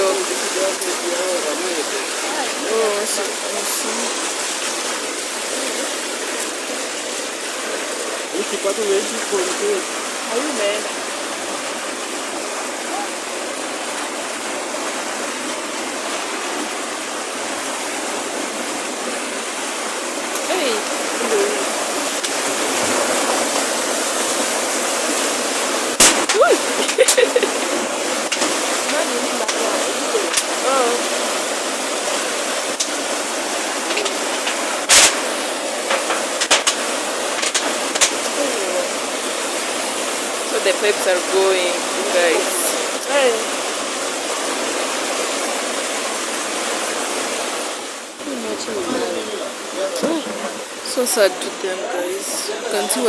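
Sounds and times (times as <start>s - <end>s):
floodwater rushing: 0.0s - 53.0s
rain: 0.0s - 53.0s.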